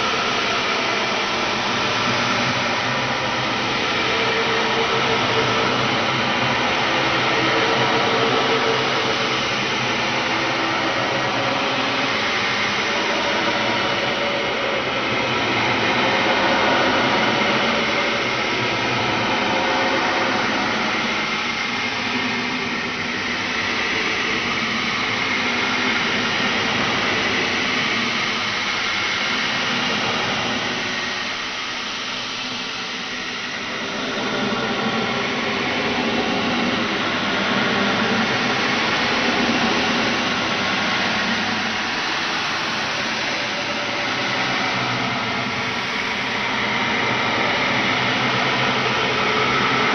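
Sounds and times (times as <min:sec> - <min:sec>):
noisy unpitched horror drone: 0:00.0 - 0:49.9.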